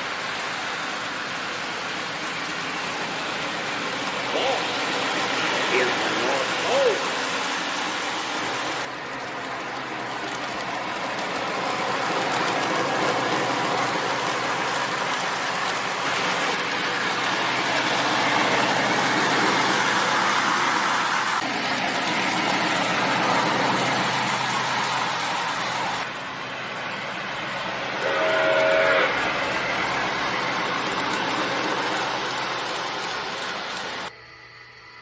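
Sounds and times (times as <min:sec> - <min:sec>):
train rolling: 0:00.0 - 0:34.2.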